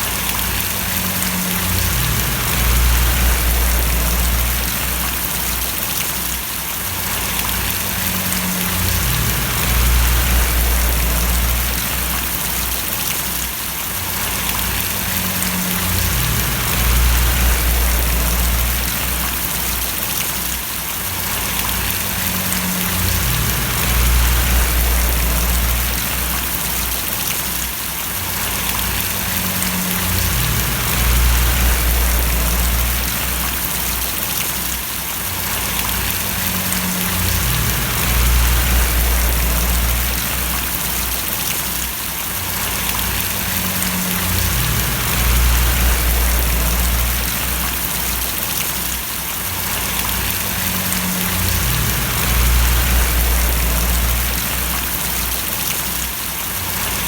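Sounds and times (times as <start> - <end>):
low rumble: 0.0 - 5.8, 7.2 - 13.1, 14.2 - 20.0, 21.4 - 27.3, 28.4 - 34.2, 35.5 - 41.5, 42.5 - 48.5, 49.7 - 55.7
heavy rain splashing: 0.0 - 57.0.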